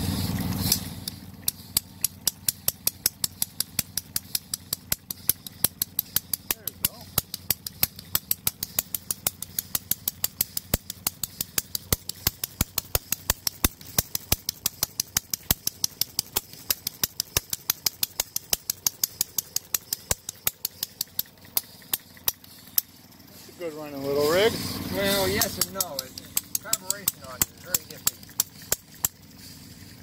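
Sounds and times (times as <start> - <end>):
small gas engine clicking: 0.0 - 30.0.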